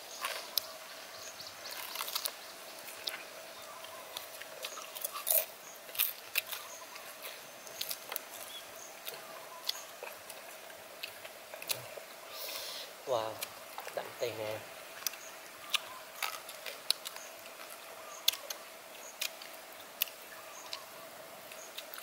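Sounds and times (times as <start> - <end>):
chewing with crunches: 0.0 - 22.0
faint steady hum: 0.0 - 22.0.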